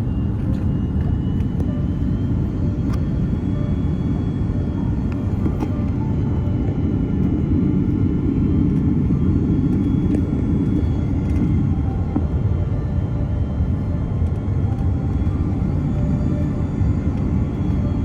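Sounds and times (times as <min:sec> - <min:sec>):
low rumble of engines and airflow: 0:00.0 - 0:18.0.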